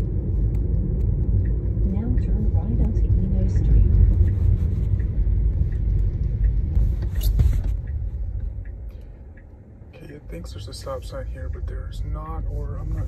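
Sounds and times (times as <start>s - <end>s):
tyre rumble and road noise: 0.0s - 13.0s.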